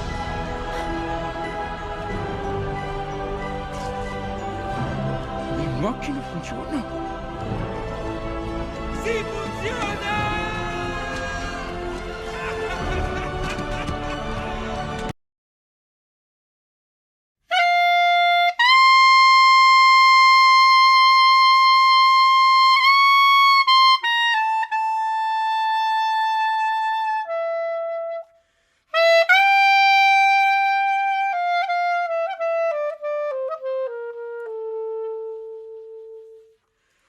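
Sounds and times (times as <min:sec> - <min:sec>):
solo wind instrument melody: 0:00.0 - 0:13.3, 0:17.5 - 0:36.8.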